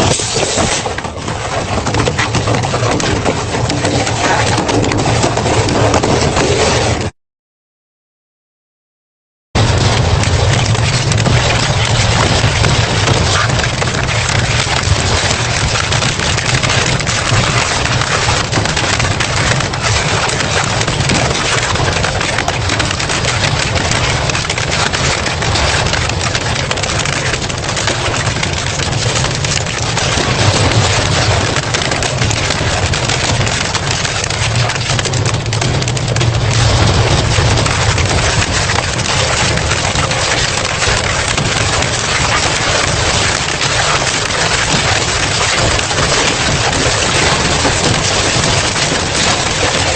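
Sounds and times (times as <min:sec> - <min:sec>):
low drive hum: 0:09.6 - 0:49.9
shredder grinding scrap metal: 0:09.6 - 0:49.9.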